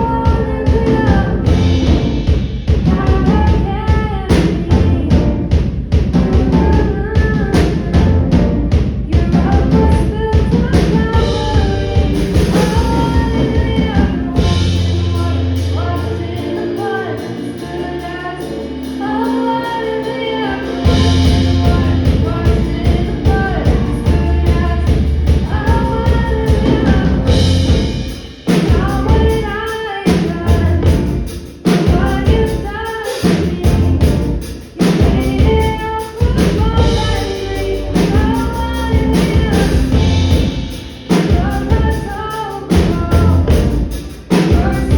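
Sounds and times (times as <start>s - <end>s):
band playing a song: 0.0s - 44.9s
lead singer: 0.0s - 44.9s.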